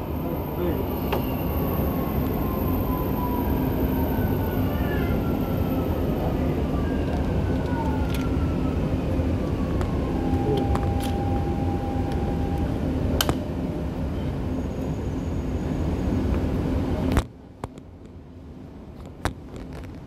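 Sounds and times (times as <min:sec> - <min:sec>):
metro train rumble: 0:00.0 - 0:20.0.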